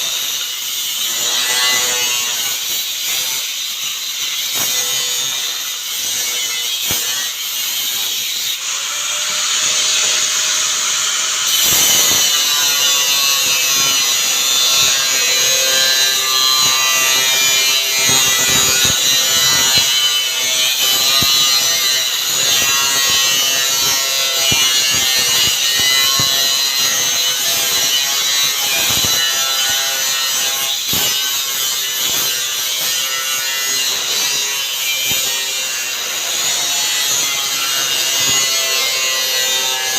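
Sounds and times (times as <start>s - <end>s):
power tool cutting with whine: 0.0s - 39.9s.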